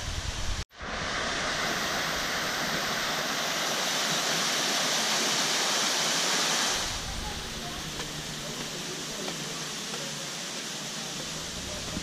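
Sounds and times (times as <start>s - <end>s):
waterfall pouring into pool: 0.8s - 12.0s.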